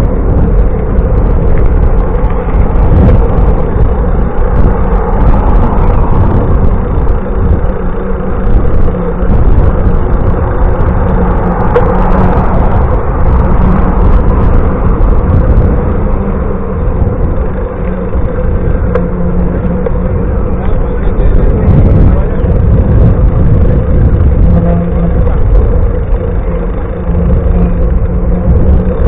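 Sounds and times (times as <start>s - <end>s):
wind and road noise rumble: 0.0s - 29.0s.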